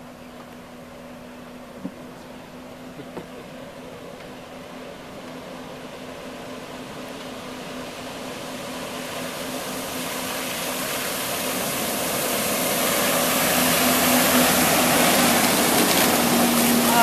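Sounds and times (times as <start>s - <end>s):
watercraft engine running: 0.0s - 17.0s
hiss of spray and wake: 0.9s - 17.0s.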